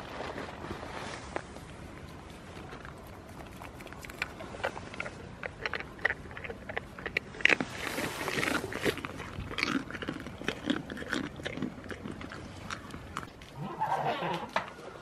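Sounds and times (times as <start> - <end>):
goat chewing and crunching: 0.0 - 15.0.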